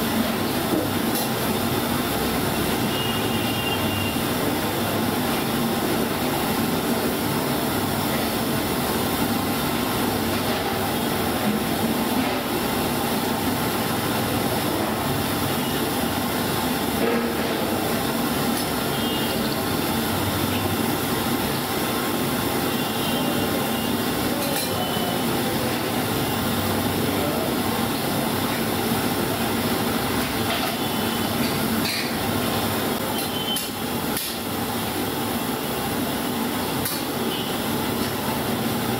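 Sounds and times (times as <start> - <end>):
cooking stall roaring: 0.0 - 38.9.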